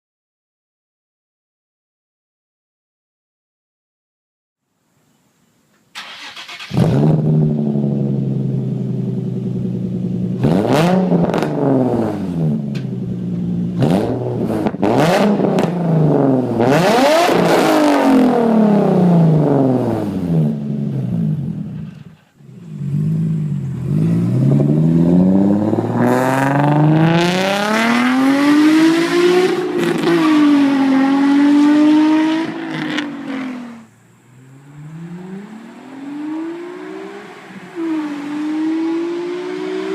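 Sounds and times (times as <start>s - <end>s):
car engine revving: 6.0s - 39.9s.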